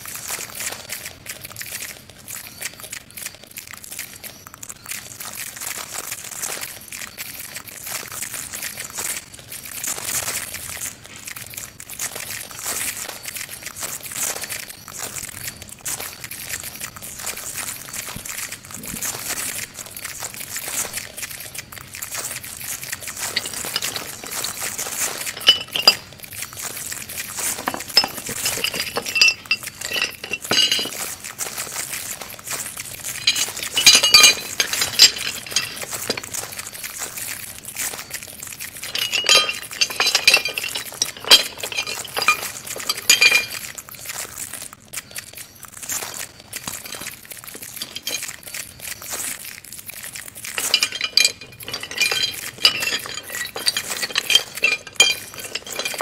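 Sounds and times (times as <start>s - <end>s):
glassy clinks and crackles: 0.0s - 56.0s.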